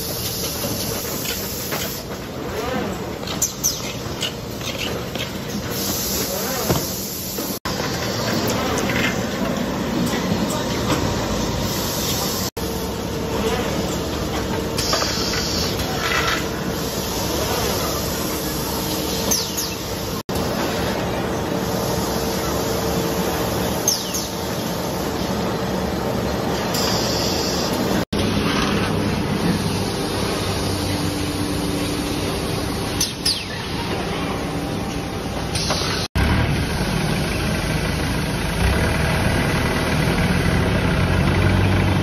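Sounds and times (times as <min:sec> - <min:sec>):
packaging machinery hum and hiss: 0:00.0 - 0:36.1.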